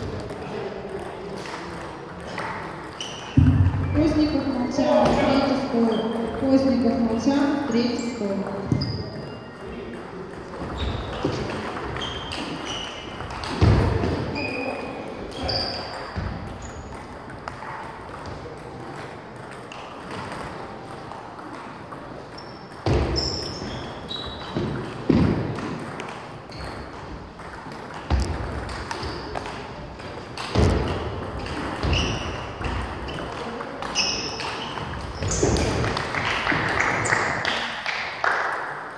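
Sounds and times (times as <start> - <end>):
table tennis balls bouncing: 0.0 - 38.9.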